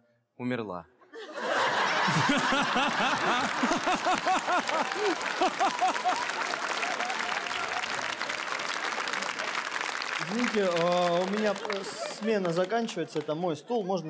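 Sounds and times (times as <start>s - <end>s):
audience laughing: 1.2s - 13.2s
audience clapping: 1.6s - 13.7s.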